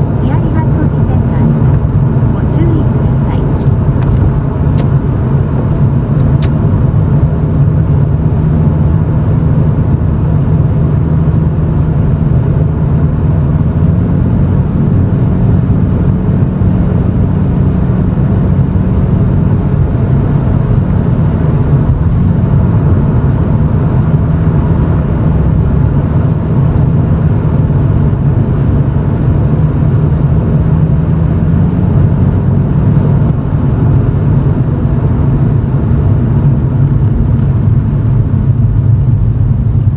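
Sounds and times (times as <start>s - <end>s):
car exhaust drone from cabin: 0.0s - 39.9s.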